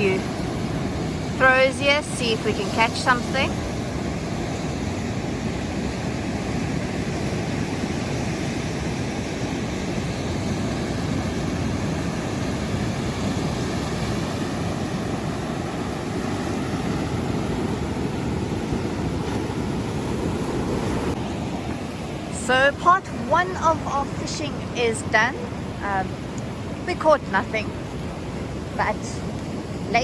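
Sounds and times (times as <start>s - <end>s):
ocean surf: 0.0s - 30.0s
wind on microphone: 0.0s - 30.0s.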